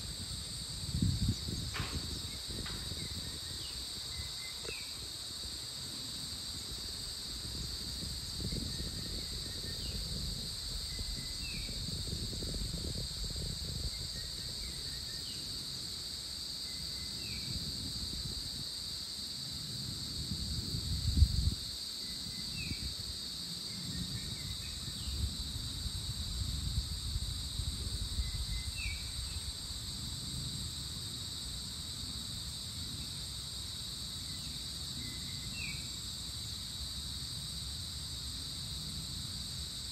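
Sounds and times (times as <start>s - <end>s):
wind rumbling on microphone: 0.0s - 33.0s
insects droning: 0.0s - 39.9s.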